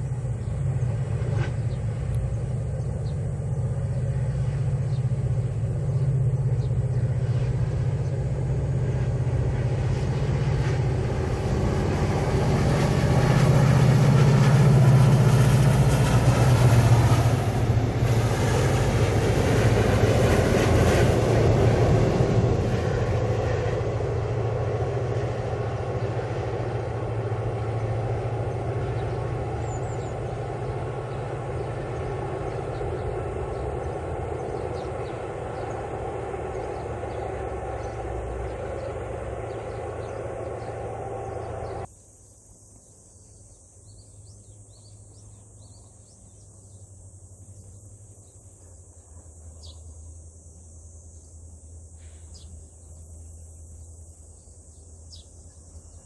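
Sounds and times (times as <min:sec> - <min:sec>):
insects: 0:00.0 - 0:56.0
train rumbling on viaduct: 0:00.0 - 0:56.0.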